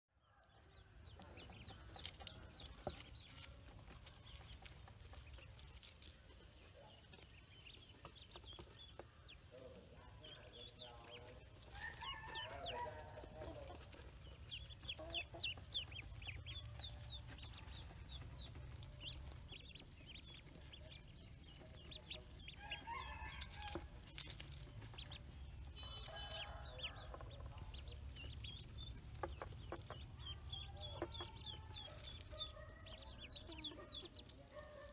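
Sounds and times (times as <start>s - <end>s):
ducklings peeping: 0.5s - 34.9s.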